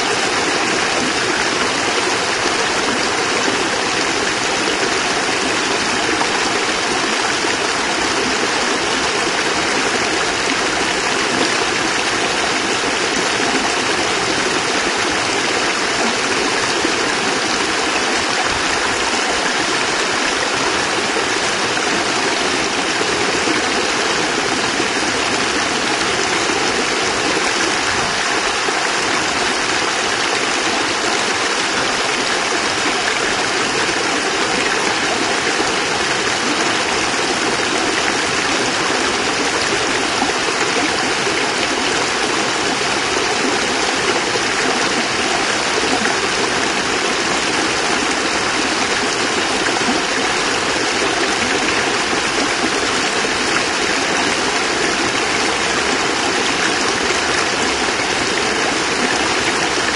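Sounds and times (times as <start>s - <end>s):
water pouring over cascade: 0.0s - 59.9s.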